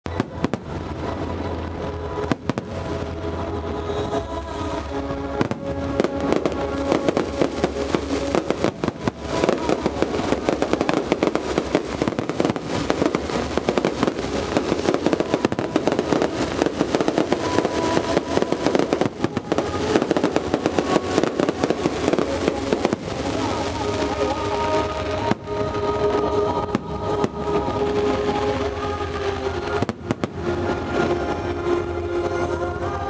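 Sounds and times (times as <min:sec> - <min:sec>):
fireworks bangs and crackling: 0:00.1 - 0:32.9.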